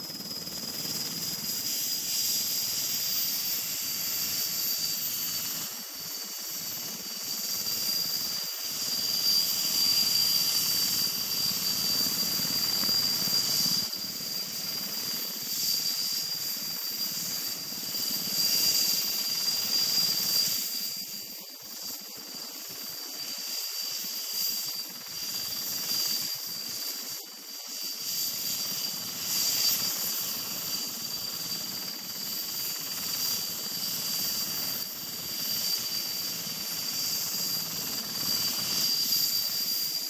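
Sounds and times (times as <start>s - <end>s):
helicopter turbine whine: 0.0s - 40.0s.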